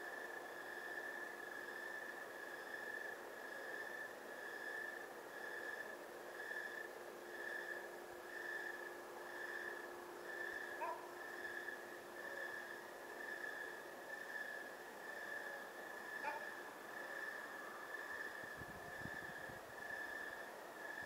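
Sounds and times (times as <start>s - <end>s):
faint low hum: 0.0s - 21.0s
night insects chirping: 0.0s - 21.0s.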